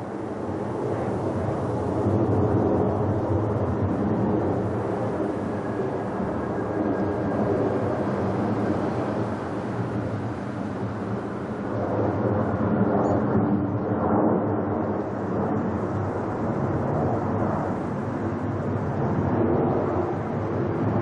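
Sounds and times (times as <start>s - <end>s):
faint engine whine: 0.0s - 21.0s
jet engines rumbling: 0.0s - 21.0s.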